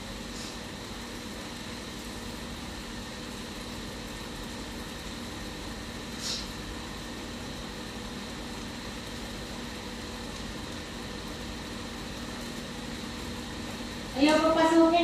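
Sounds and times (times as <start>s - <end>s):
low machine hum with hiss: 0.0s - 15.0s.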